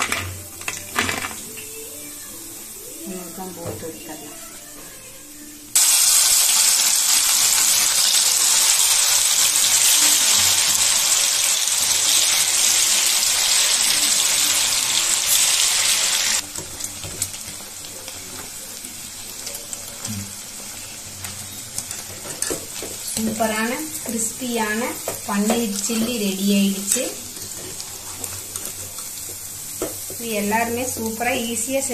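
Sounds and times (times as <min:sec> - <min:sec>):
food sizzling in hot oil: 0:05.4 - 0:31.9.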